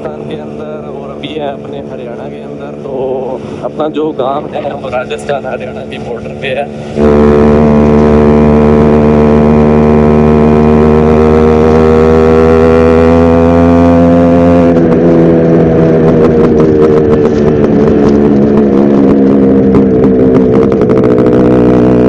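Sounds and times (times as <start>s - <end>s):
engine crackling: 0.0s - 22.0s
motorcycle engine running: 0.0s - 22.0s.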